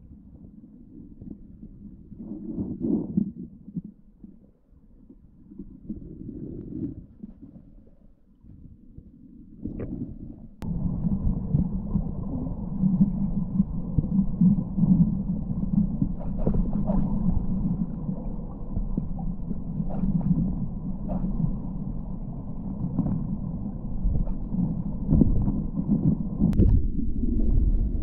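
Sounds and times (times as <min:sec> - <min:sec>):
underwater river rumble: 0:00.0 - 0:28.0.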